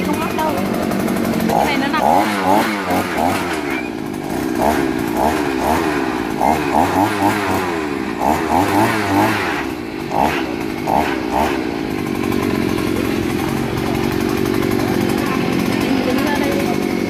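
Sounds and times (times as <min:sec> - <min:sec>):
engine earth auger drilling: 0:00.0 - 0:17.0.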